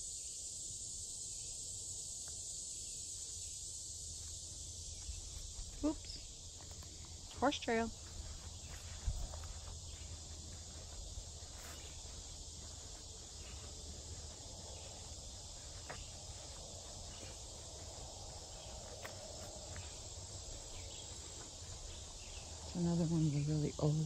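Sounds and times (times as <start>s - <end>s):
insects chirping: 0.0s - 24.0s
footsteps on dirt trail: 3.3s - 23.1s.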